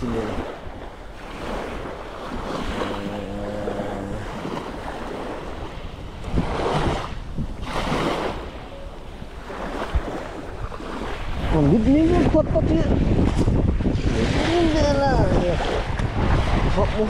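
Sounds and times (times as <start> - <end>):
waves washing over pebbles: 0.0 - 8.6, 9.3 - 17.0
wind on microphone: 0.0 - 17.0.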